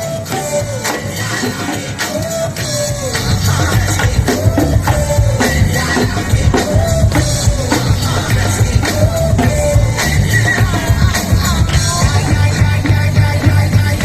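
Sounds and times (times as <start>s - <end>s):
dance music over loudspeakers: 0.0s - 14.0s.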